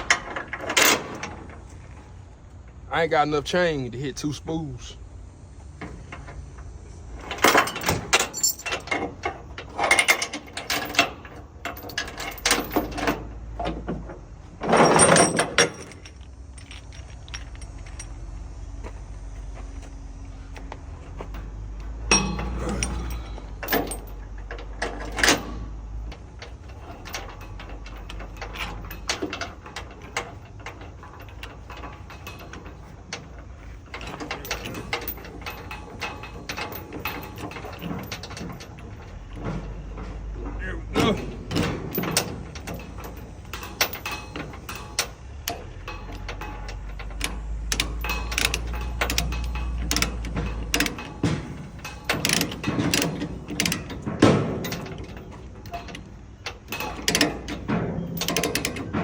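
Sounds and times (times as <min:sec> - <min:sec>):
steel chain clanking: 0:00.0 - 0:04.7, 0:05.8 - 0:59.0.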